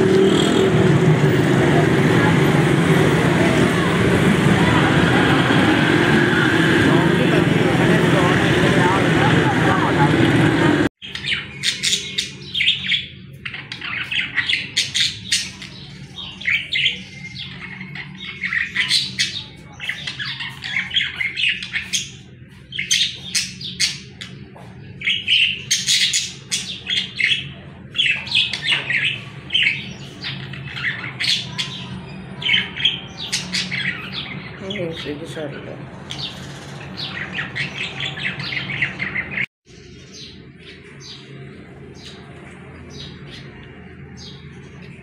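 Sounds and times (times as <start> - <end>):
budgerigars chirping and chattering: 0.0 - 45.0.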